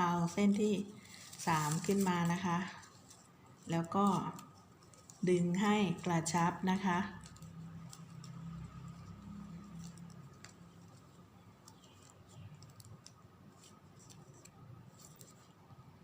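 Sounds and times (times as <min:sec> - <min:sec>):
ribbon strips clicking and rustling: 0:00.0 - 0:15.6.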